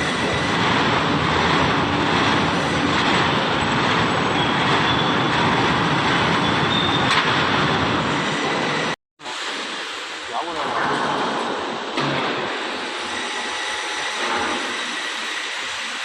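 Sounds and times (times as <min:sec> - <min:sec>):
industrial machinery roaring: 0:00.0 - 0:16.0.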